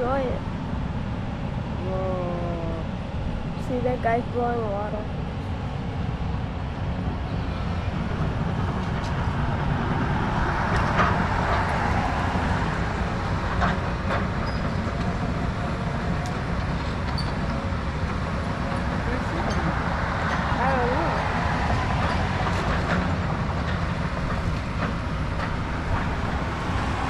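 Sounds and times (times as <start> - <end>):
excavator diesel engine: 0.0 - 27.0.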